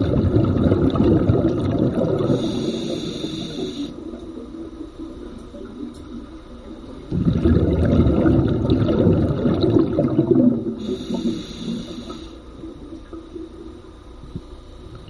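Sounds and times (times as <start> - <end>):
muffled underwater water churning: 0.0 - 15.0.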